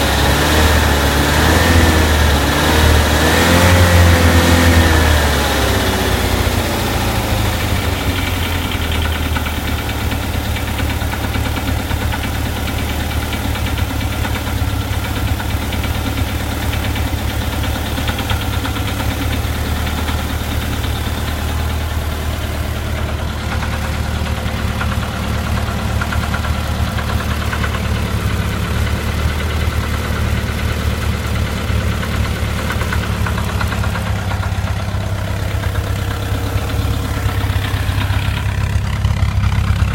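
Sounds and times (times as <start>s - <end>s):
car engine idling: 0.0s - 39.9s
irregular engine knocking: 0.0s - 39.9s.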